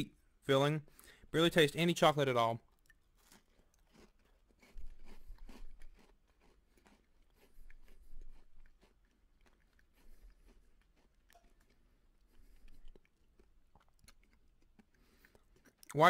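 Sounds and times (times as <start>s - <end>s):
cookie crunching: 2.6s - 16.0s.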